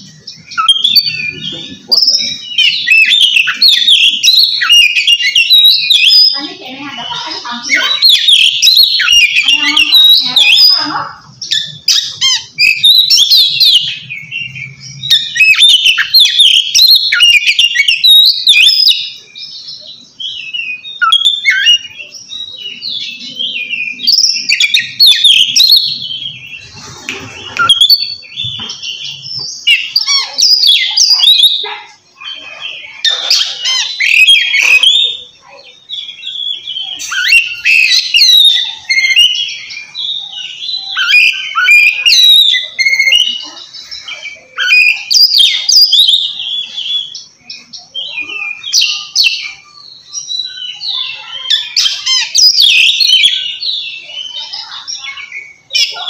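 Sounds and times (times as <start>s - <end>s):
bird singing loudly: 0.0s - 56.0s.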